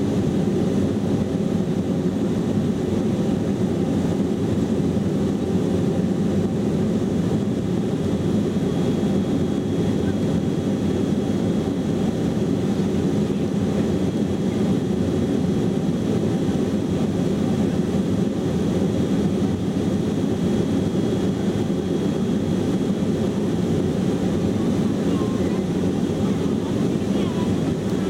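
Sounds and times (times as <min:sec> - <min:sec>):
jet engines in cabin: 0:00.0 - 0:28.0.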